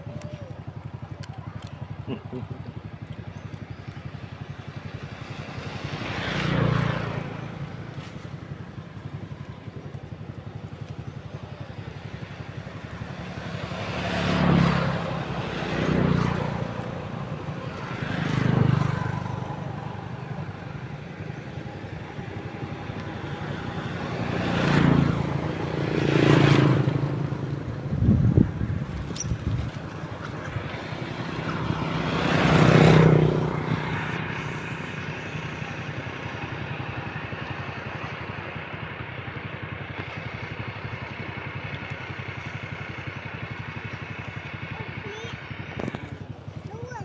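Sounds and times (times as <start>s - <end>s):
vehicles passing by: 0.0s - 47.0s.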